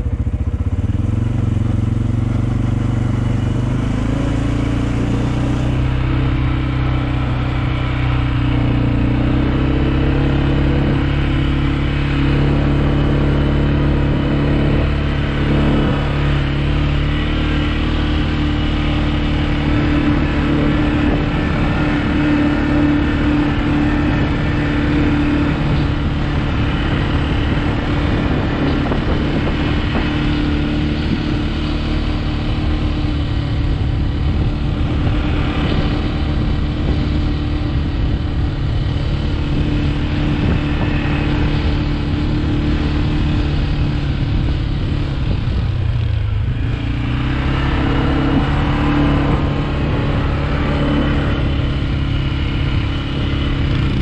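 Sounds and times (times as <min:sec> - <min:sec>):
quad engine running: 0:00.0 - 0:54.0.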